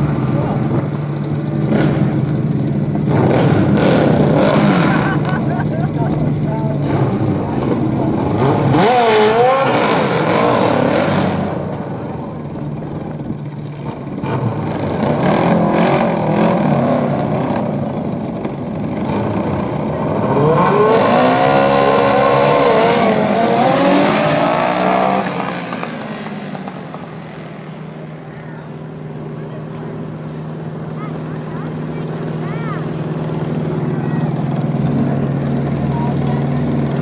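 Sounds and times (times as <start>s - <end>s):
racing lawn mower engines revving: 0.0s - 37.0s.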